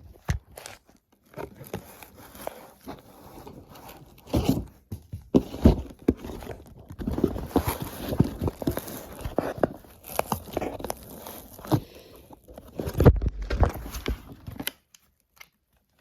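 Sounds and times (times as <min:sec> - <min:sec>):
packaging rustling and scraping: 0:00.0 - 0:14.9.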